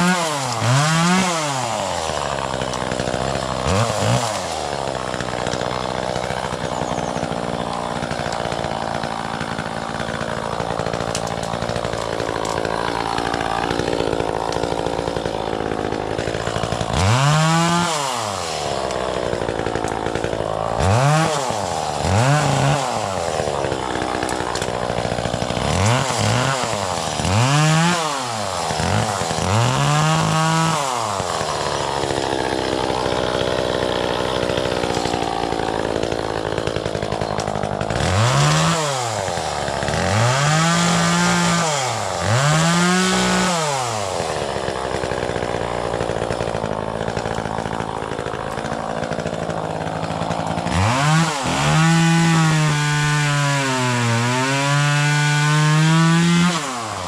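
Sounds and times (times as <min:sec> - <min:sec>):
chainsaw idling and revving: 0:00.0 - 0:57.0.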